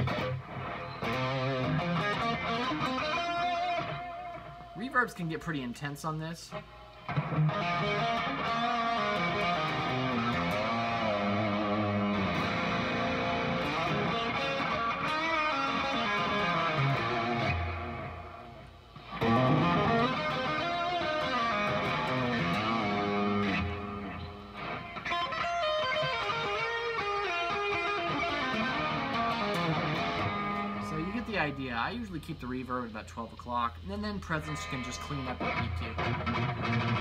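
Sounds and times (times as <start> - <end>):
electric guitar with reverb: 0.0 - 4.8, 6.4 - 32.5, 34.2 - 37.0.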